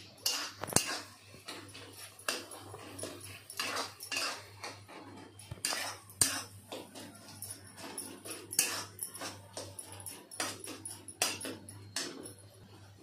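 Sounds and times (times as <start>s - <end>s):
metal spoon scraping a pot: 0.0s - 13.0s.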